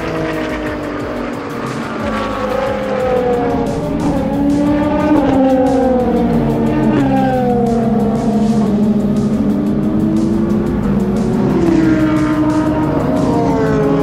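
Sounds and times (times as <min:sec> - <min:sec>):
race car engines at speed: 0:00.0 - 0:14.0.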